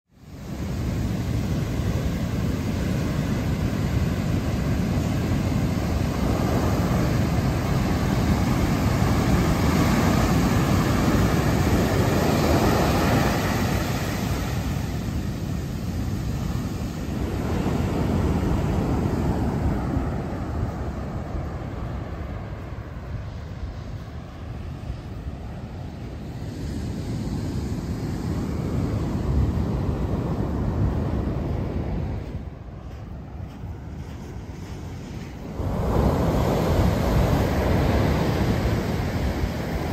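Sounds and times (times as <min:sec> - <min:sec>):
heavy surf breaking over rocks: 0:00.3 - 0:39.9.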